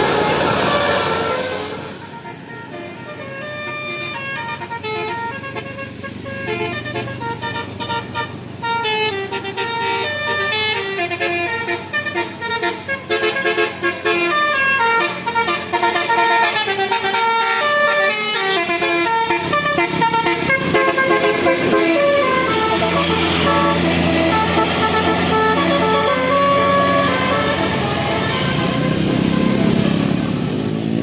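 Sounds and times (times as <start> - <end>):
bus air horn tune: 0.0 - 30.1.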